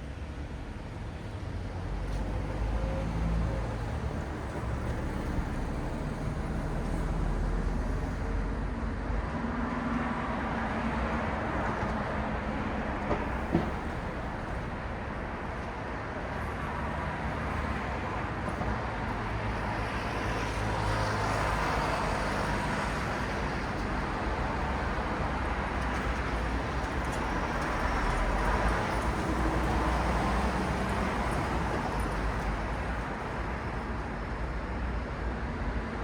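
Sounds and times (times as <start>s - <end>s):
city road traffic: 0.0s - 36.0s.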